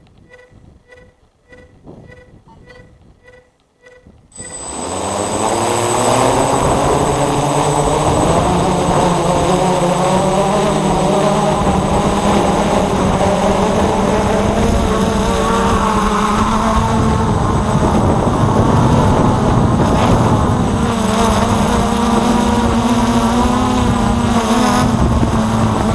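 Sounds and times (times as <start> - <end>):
drone motors buzzing whine: 0.2 - 25.9.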